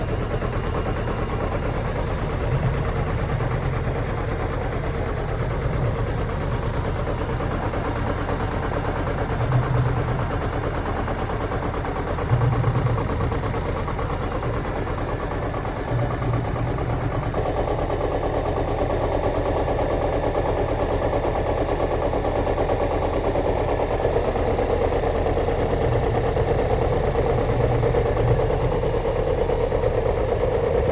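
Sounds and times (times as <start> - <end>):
car engine idling: 0.0 - 30.9
low engine pulses: 0.0 - 30.9.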